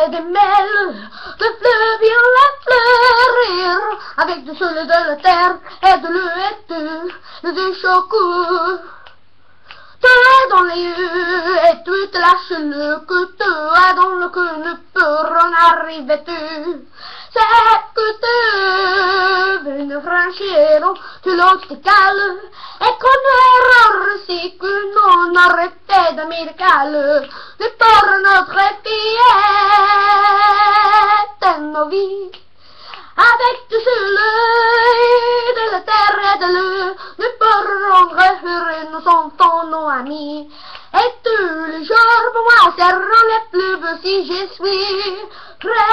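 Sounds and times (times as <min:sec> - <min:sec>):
boy singing in a high voice: 0:00.0 - 0:08.9, 0:10.0 - 0:32.4, 0:33.0 - 0:45.9.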